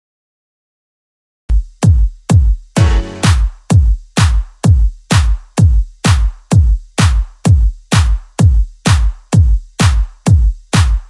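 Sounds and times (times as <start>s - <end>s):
electronic dance music: 1.5s - 11.0s
heavy kick drum: 1.5s - 11.0s.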